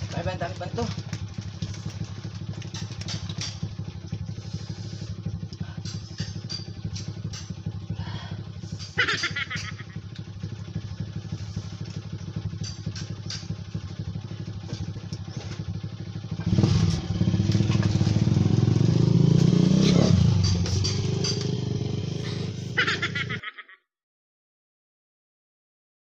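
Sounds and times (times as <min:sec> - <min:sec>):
engine running: 0:00.0 - 0:23.4.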